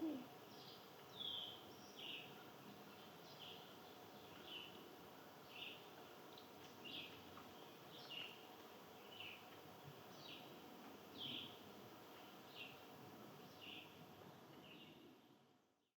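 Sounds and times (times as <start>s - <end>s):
low outdoor hiss: 0.0s - 15.9s.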